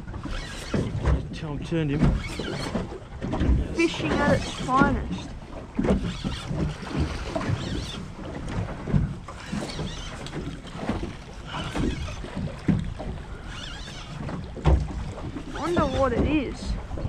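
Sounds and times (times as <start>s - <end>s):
water slapping against boat hull: 0.0s - 17.0s.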